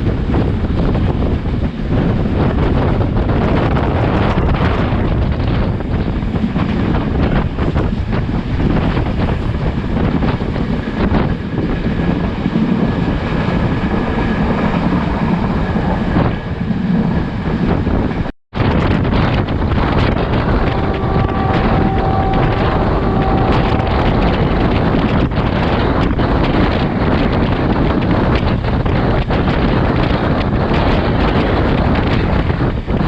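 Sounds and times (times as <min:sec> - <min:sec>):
train running low rumble: 0:00.0 - 0:33.0
wind buffeting microphone: 0:00.0 - 0:33.0.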